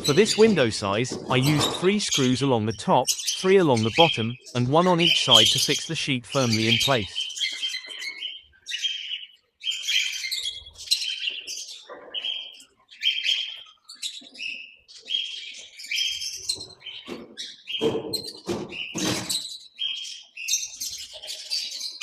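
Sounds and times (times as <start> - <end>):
parrots chirping and chattering: 0.0 - 22.0.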